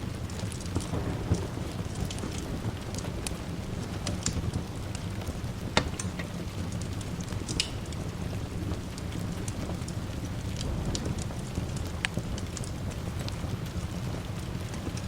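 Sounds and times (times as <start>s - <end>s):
rain hissing: 0.0s - 15.0s
wood fire crackling and popping: 0.0s - 15.0s.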